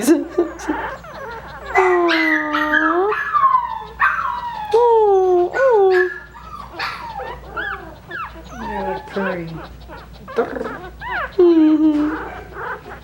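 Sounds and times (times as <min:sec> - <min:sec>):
puppies whimpering and squealing: 0:00.0 - 0:13.0.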